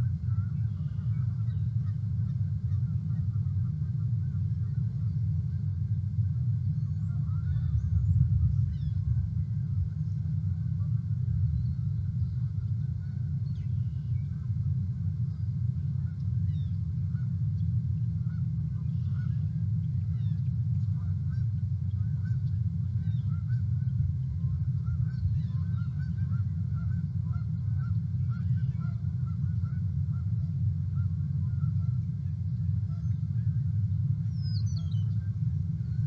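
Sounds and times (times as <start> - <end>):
geese honking faintly: 0.0 - 36.0
steady low rumble: 0.0 - 36.0.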